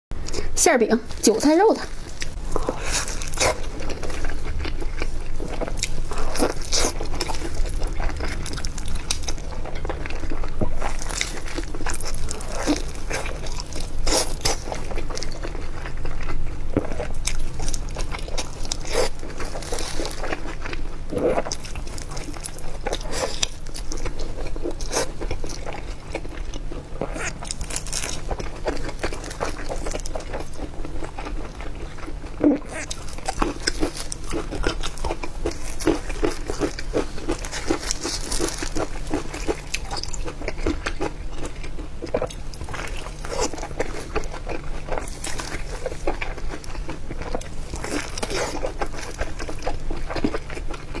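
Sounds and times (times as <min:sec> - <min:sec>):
person biting and chewing: 0:01.8 - 0:51.0.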